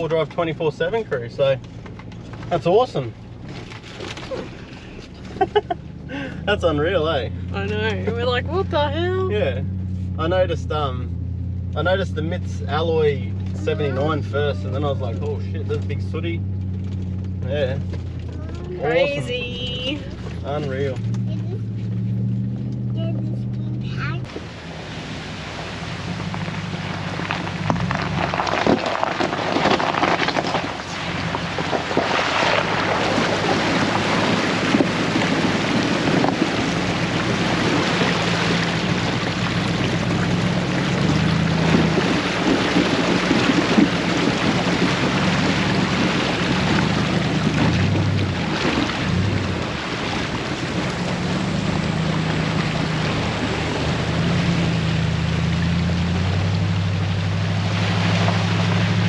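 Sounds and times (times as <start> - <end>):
road wind and rain noise: 0.0 - 59.0
vehicle engine running: 0.0 - 59.0.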